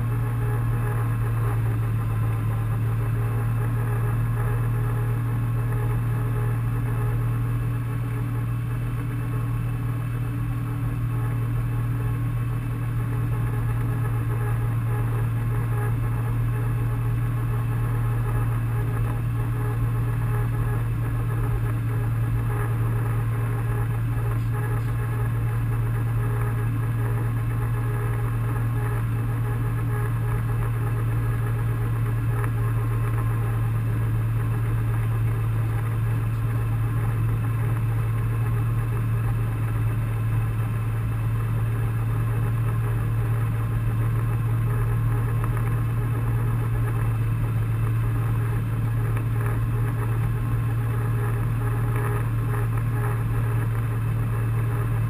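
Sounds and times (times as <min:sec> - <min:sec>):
tractor engine drone: 0:00.0 - 0:55.0.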